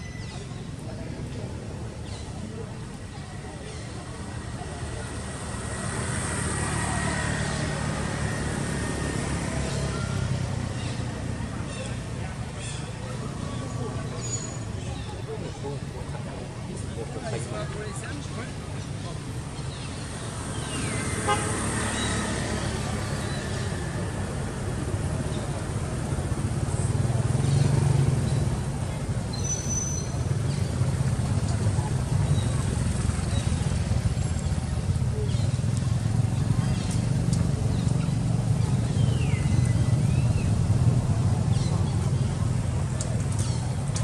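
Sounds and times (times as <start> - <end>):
vehicle engine rumble: 0.0 - 44.0.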